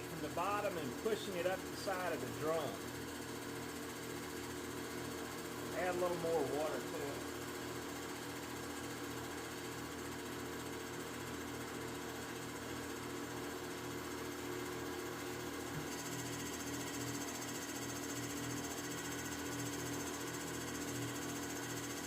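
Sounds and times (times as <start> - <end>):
machine hum: 0.0 - 10.9, 11.7 - 22.0.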